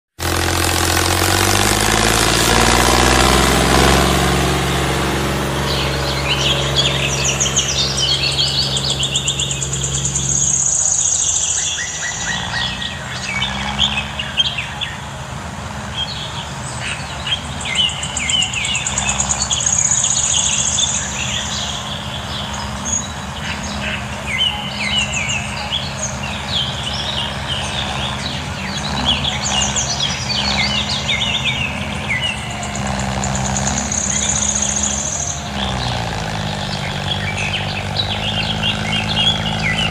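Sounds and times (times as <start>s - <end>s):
birds chirping: 0.1s - 39.9s
low mechanical hum: 0.2s - 39.9s.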